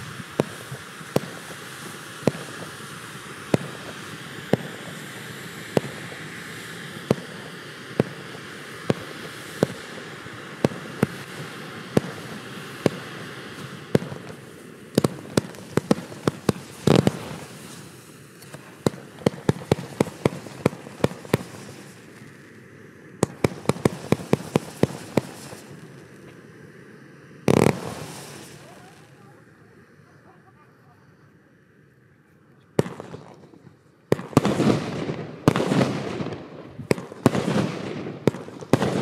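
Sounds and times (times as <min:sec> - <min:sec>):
fireworks cracks and bangs: 0:00.0 - 0:22.5, 0:23.2 - 0:26.4, 0:27.5 - 0:29.3, 0:32.8 - 0:39.0.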